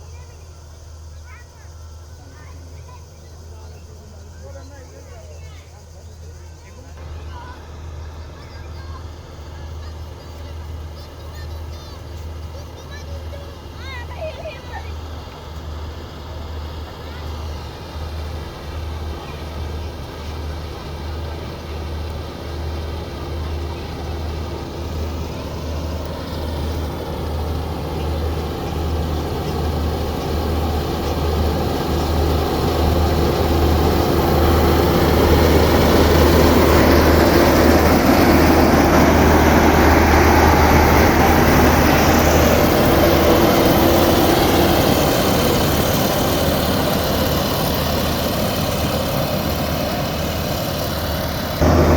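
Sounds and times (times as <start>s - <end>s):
combine harvester engine running: 0.0s - 51.9s.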